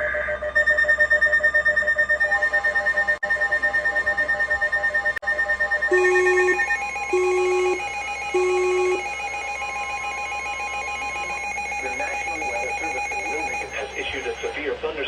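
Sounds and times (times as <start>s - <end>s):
long low beeps: 0.0s - 14.7s
pulsing electronic alarm: 0.0s - 14.8s
steady high tone: 1.8s - 14.8s.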